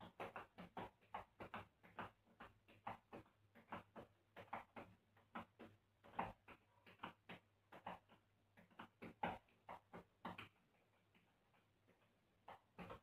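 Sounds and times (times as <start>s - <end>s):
tap shoes on tiled floor: 0.0s - 13.0s.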